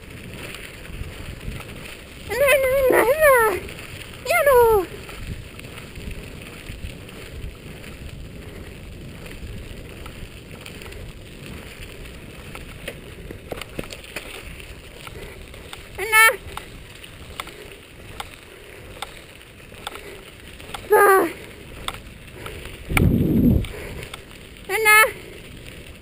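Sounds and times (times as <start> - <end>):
wind on microphone: 0.0 - 18.2, 19.7 - 26.0
tyres rolling over gravel: 0.0 - 26.0.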